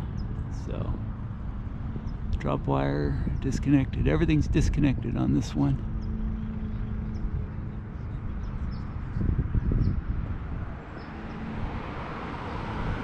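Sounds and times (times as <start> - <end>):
engine hum: 0.0 - 13.0
traffic rumble: 0.0 - 13.0
vehicle passing: 0.0 - 13.0.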